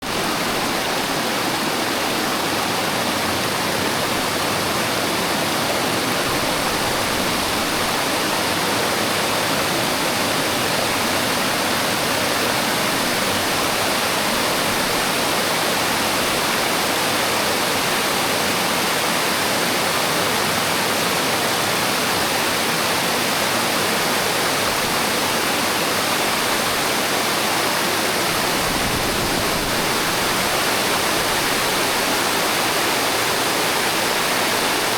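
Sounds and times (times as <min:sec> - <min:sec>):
waterfall roar: 0:00.0 - 0:34.9.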